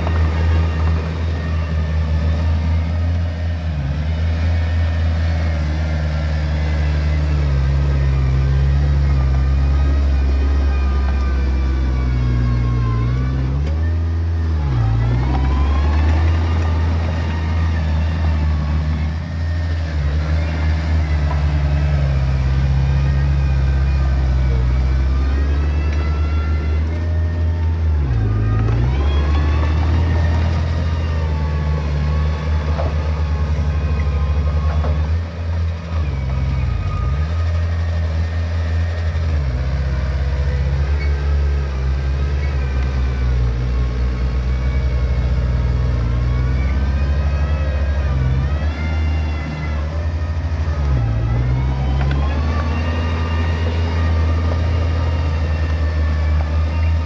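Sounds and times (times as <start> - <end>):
diesel engine under load: 0.0 - 57.0.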